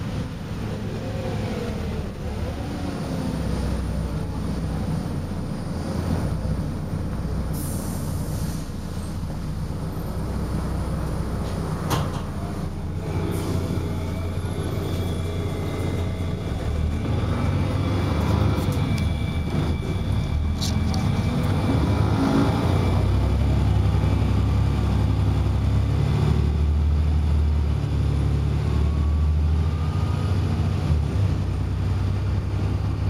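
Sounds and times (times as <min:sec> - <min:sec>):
bus diesel engine droning: 0:00.0 - 0:33.0
road noise: 0:00.0 - 0:33.0.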